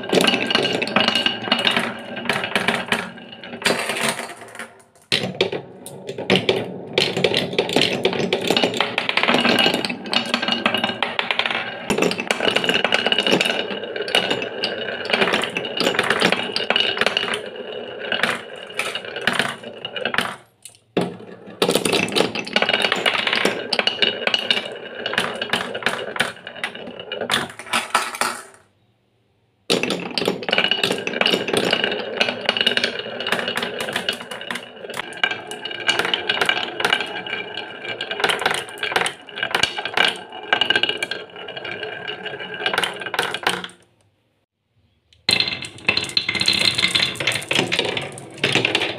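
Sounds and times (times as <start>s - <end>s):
marbles clicking and clacking: 0.0s - 28.6s, 29.7s - 44.0s, 45.1s - 48.9s
glass marbles rolling on wood: 0.0s - 28.7s, 29.7s - 43.9s, 45.2s - 48.9s.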